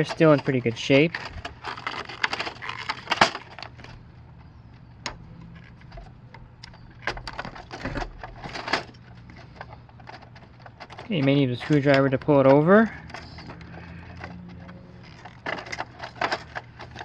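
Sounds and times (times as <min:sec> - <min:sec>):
rubber tire rubbing and creaking: 0:00.0 - 0:17.0.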